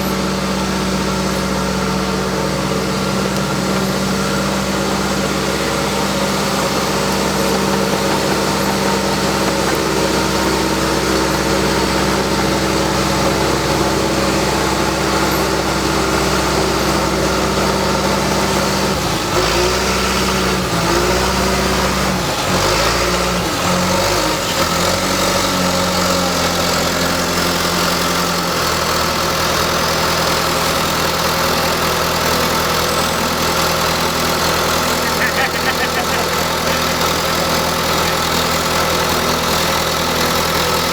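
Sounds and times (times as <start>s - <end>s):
engine running and revving: 0.0s - 40.9s.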